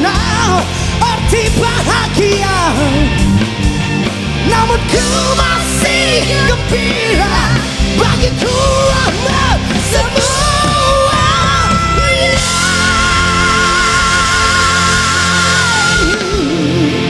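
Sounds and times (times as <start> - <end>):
person singing with vibrato: 0.0 - 3.4, 4.4 - 17.0
rock ballad played live by band: 0.0 - 17.0.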